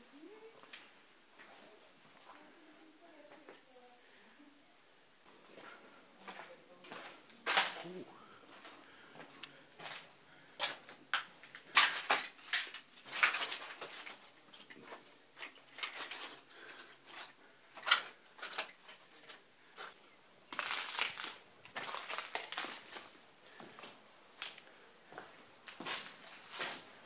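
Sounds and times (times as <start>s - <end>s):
footsteps crunching on rubble: 5.3s - 27.0s.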